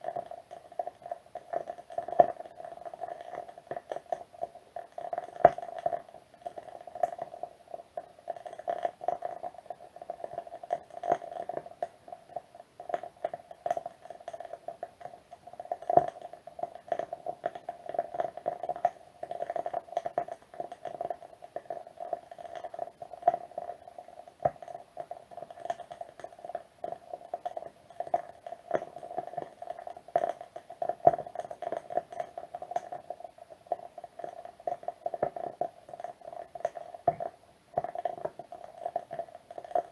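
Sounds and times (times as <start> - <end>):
candle crackling and popping: 0.0 - 39.9.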